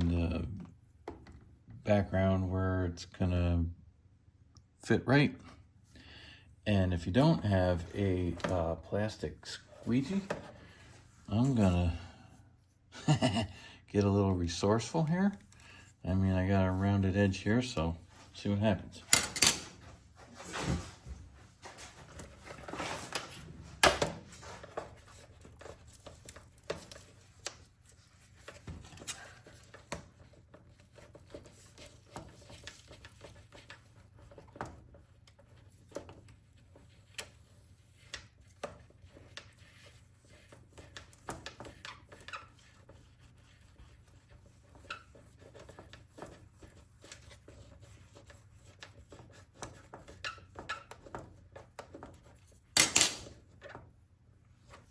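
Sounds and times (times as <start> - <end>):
tool tapping and rubbing on plastic: 7.2 - 11.7, 14.0 - 54.0.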